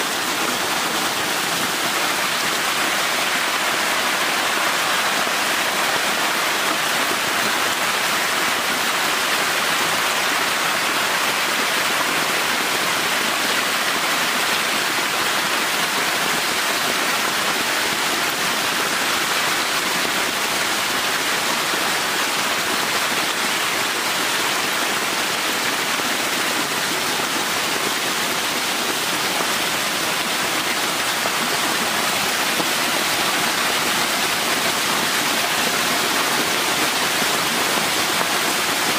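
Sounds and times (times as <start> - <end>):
water jetting from pipes: 0.0 - 38.9.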